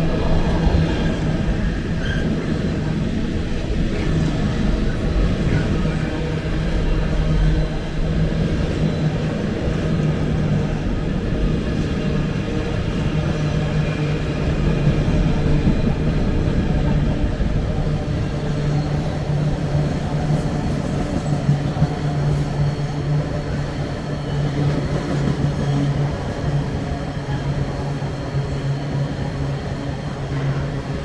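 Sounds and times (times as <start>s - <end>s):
continuous train rumble: 0.0s - 31.0s.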